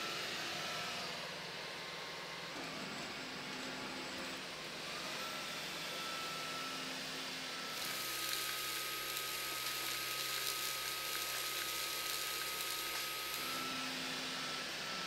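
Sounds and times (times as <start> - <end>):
vacuum motor whine: 0.0 - 15.0.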